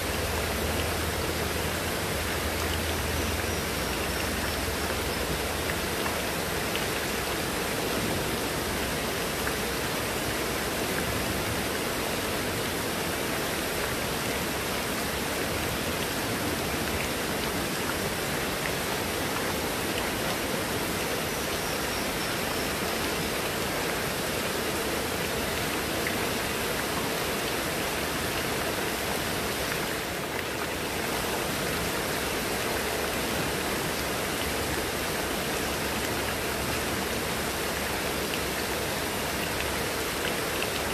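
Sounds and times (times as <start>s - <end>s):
heavy rain on leaves and paving: 0.0s - 40.9s.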